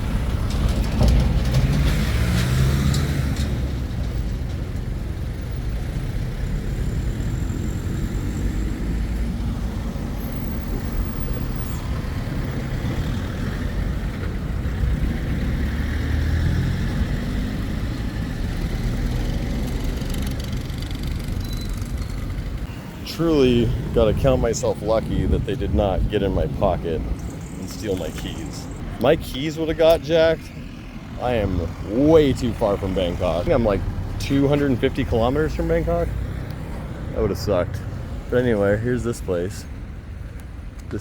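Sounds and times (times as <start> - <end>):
steady low traffic rumble: 0.0 - 41.0
vehicles passing: 0.0 - 41.0.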